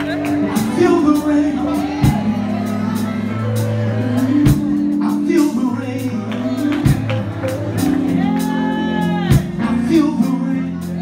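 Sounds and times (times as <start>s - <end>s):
man singing: 0.0s - 7.1s, 8.1s - 11.0s
live gospel music: 0.0s - 11.0s.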